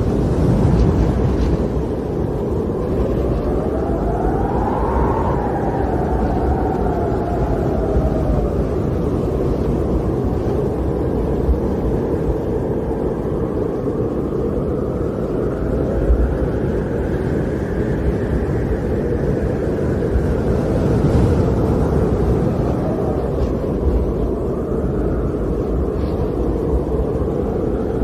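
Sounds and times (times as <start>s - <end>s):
snowstorm wind blowing: 0.0s - 28.0s.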